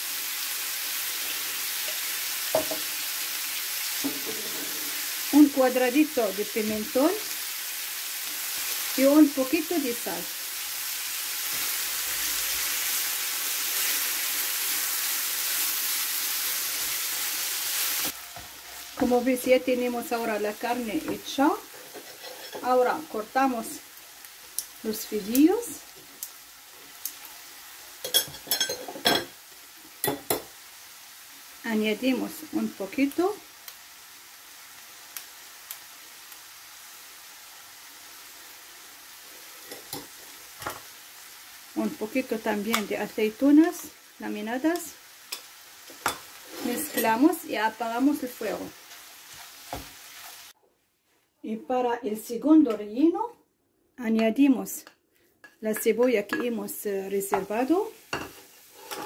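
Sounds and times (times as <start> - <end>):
meat and onion sizzling in a pan: 0.0 - 50.6, 55.6 - 59.0.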